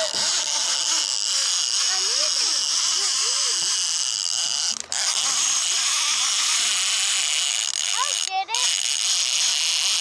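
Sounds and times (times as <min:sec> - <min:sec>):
fishing reel whirring: 0:00.0 - 0:10.0.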